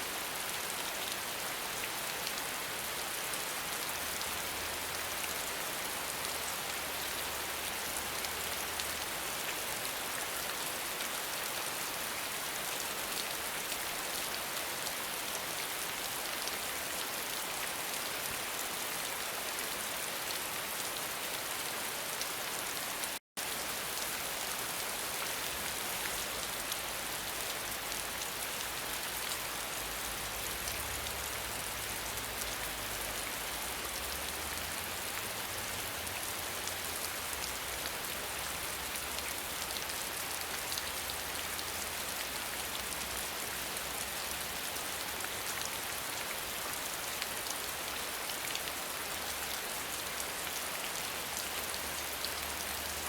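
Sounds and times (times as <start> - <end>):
steady rainfall: 0.0 - 53.0.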